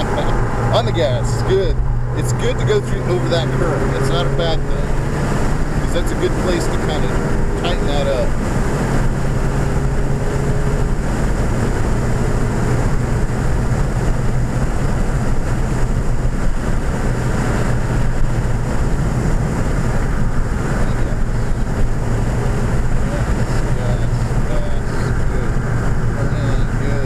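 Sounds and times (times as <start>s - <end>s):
car engine drone under load: 0.0s - 27.0s
road noise: 0.0s - 27.0s.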